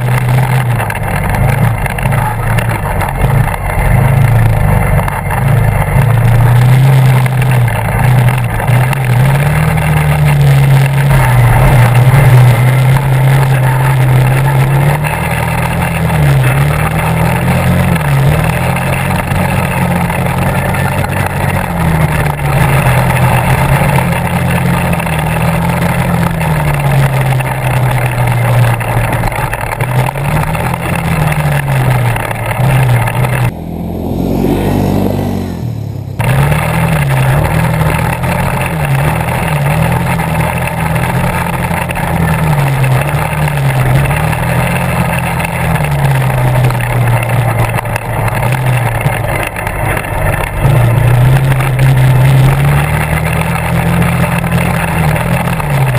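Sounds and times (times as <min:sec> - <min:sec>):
atv engine revving: 0:00.0 - 0:55.9
quad engine passing by: 0:00.0 - 0:55.9.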